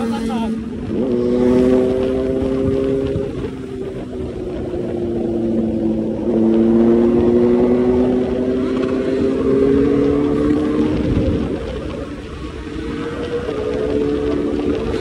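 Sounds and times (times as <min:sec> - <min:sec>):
low wind rumble: 0:00.0 - 0:15.0
motorcycle engine running: 0:00.0 - 0:15.0.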